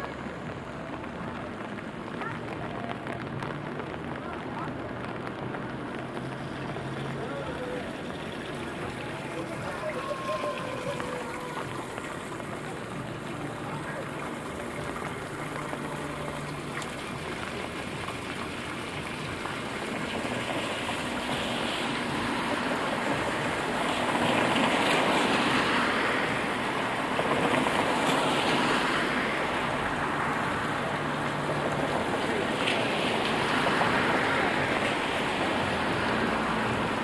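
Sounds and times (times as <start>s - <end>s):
rain on city street: 0.0s - 37.0s
wet tyre hiss of traffic: 0.0s - 37.0s.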